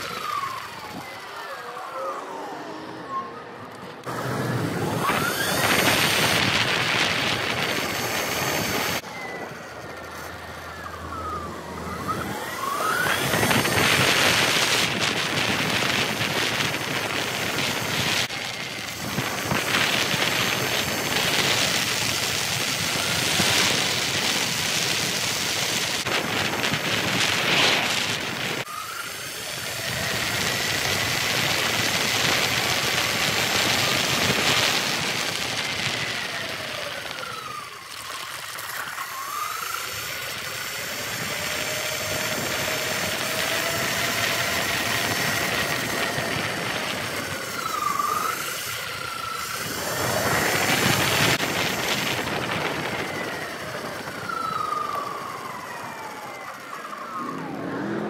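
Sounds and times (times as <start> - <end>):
electric motor whine: 0.0 - 58.0
wind buffeting microphone: 4.0 - 37.8, 40.0 - 58.0.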